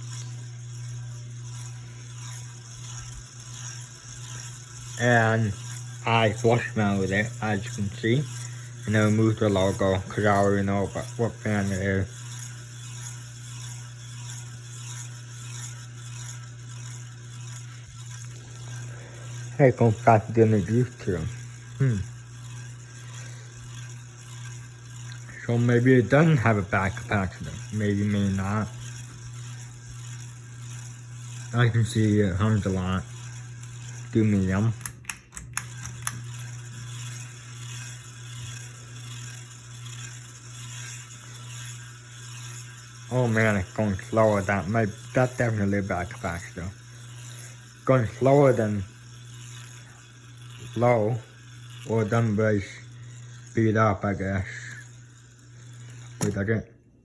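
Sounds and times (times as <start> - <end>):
ceiling fan humming: 0.0 - 57.0.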